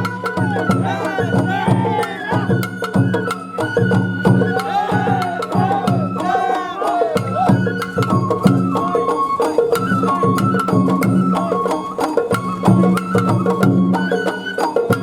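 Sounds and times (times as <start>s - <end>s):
bamboo flute: 0.0s - 15.0s
taiko drums: 0.0s - 15.0s.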